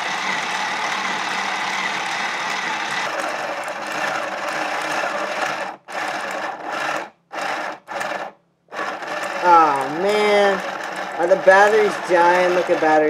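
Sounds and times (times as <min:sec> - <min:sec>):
model engine mechanical whir: 0:00.0 - 0:13.0.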